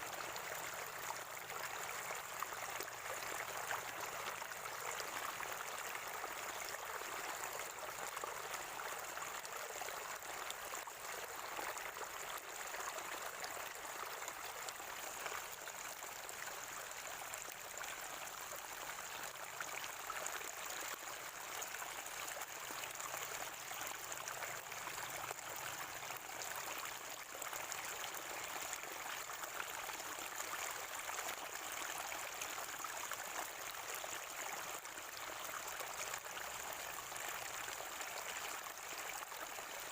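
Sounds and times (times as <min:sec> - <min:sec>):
spring water gurgling: 0:00.0 - 0:39.9.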